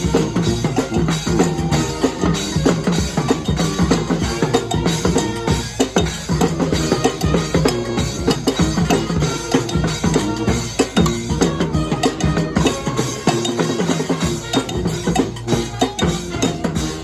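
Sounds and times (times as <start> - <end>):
brass band playing: 0.0 - 17.0
drum beat: 0.0 - 17.0.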